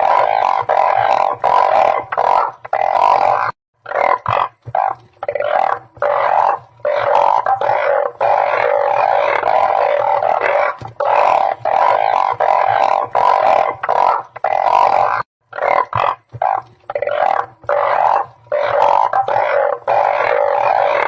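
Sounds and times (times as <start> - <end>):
chorus of frogs calling: 0.0 - 21.0.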